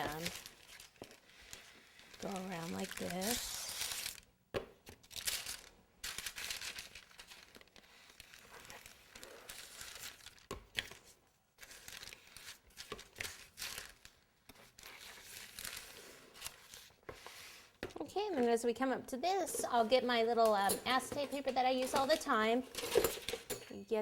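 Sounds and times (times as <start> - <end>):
crinkling and scraping handling noises: 0.0 - 4.2, 4.8 - 24.0.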